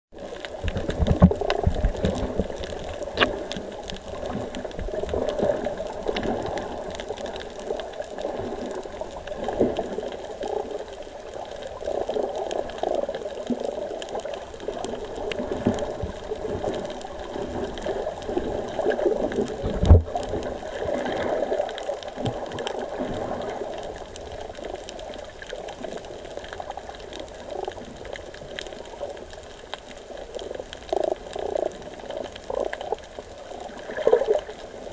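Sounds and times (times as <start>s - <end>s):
muffled underwater water noise: 0.1s - 34.9s.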